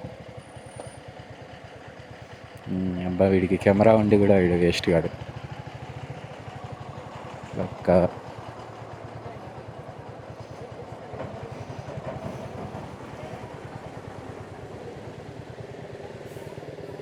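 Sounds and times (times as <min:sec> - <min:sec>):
motorcycle engine idling: 0:00.1 - 0:17.0.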